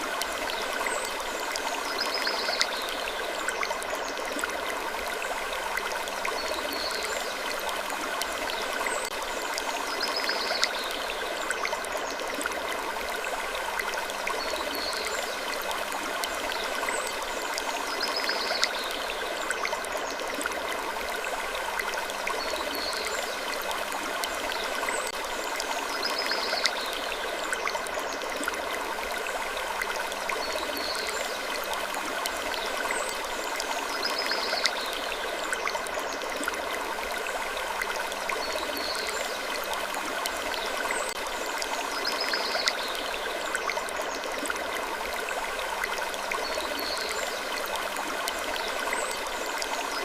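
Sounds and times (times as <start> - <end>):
water trickling and babbling: 0.0 - 50.0.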